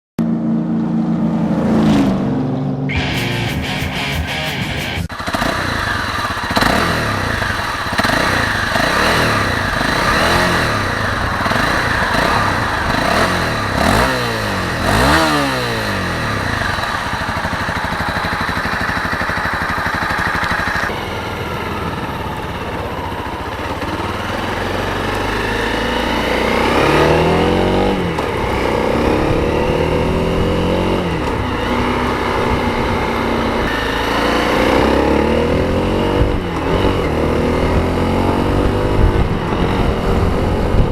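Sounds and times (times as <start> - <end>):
motorcycle engine revving: 0.2 - 40.9.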